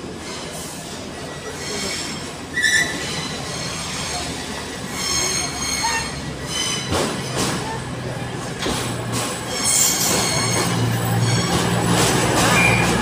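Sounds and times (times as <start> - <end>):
train engine rumble: 0.0 - 13.0
wheels and brakes squealing: 0.2 - 7.8, 9.4 - 13.0.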